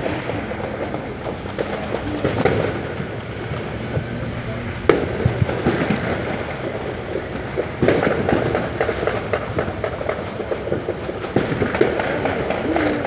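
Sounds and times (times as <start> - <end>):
fireworks crackling and popping: 0.0 - 13.0
loud firework bang: 0.0 - 13.0.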